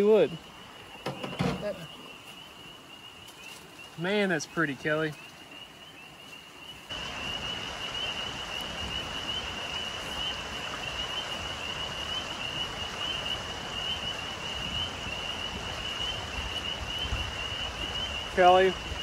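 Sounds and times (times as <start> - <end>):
creek rushing: 0.0 - 19.0.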